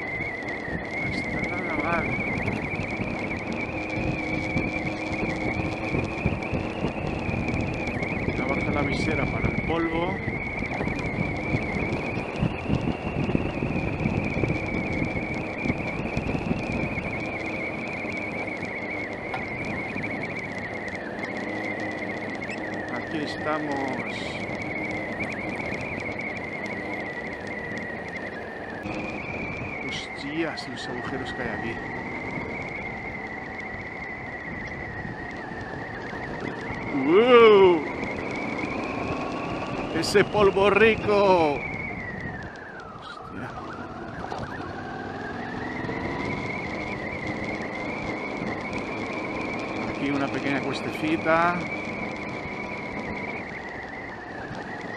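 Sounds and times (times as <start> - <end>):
high-pitched drone: 0.0 - 54.9
motorcycle engine running: 0.0 - 54.9
thin high whine: 0.0 - 54.9
tyres on gravel: 0.0 - 54.9
wind noise: 0.0 - 54.9.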